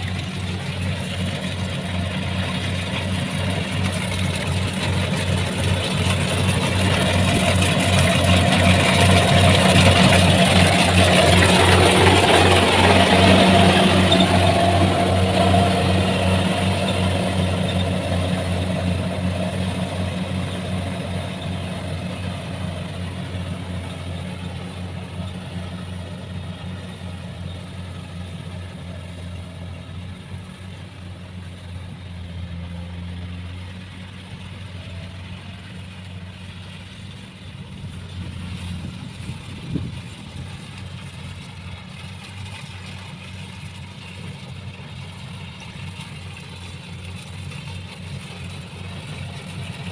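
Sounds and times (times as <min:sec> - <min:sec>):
harvester engine humming: 0:00.0 - 0:49.9.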